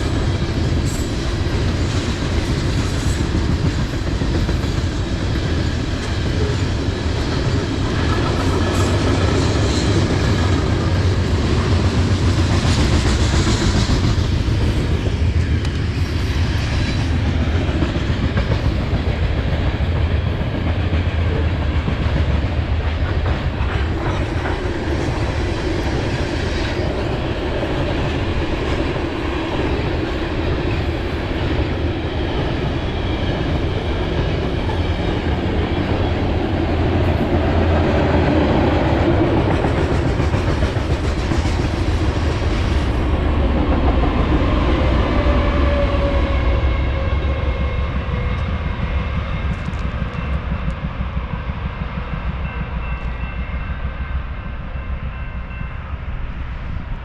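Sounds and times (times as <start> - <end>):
clickety-clack of wheels on rails: 0.0 - 57.0
freight train rumble: 0.0 - 57.0.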